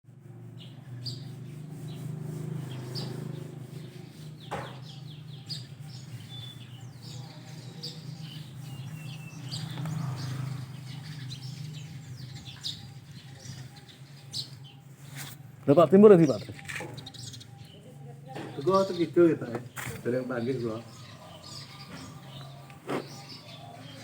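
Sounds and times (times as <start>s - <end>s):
birds chirping and twittering: 0.1s - 24.0s.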